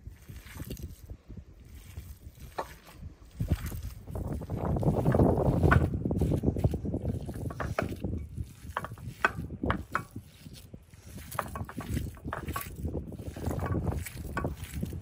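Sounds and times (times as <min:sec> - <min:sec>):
wet meat squishing: 0:00.0 - 0:15.0.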